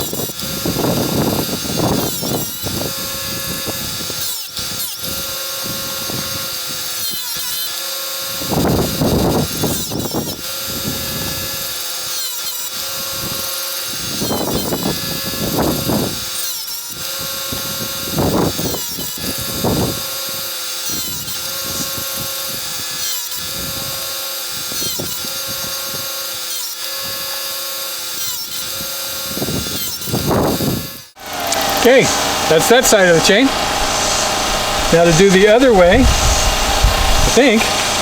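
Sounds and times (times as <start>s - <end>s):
grinding wheel on chain: 0.0s - 38.0s
motor whine: 0.0s - 38.0s.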